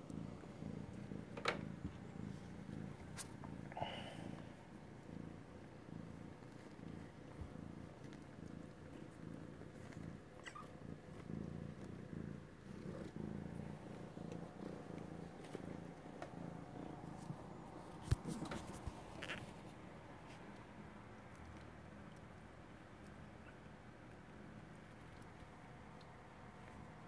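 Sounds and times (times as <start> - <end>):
cat purring: 0.0 - 27.0.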